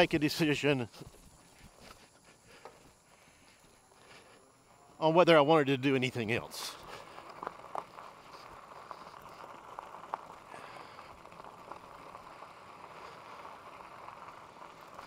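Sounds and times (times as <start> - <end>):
bike tyres rolling over gravel: 0.0 - 15.0.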